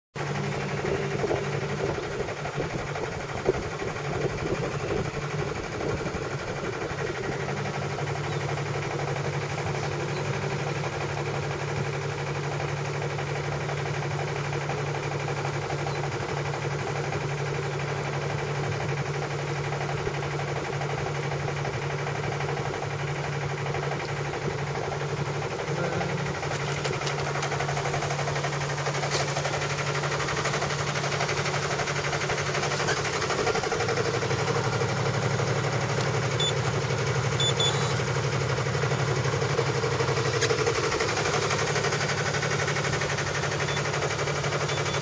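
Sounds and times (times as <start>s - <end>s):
boat motor humming: 0.2s - 45.0s.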